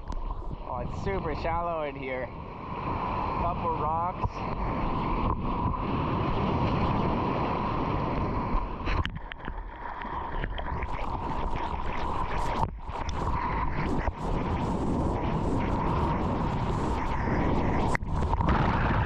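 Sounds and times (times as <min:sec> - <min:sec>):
water rushing and splashing: 0:00.0 - 0:19.0
wind buffeting microphone: 0:00.0 - 0:19.0.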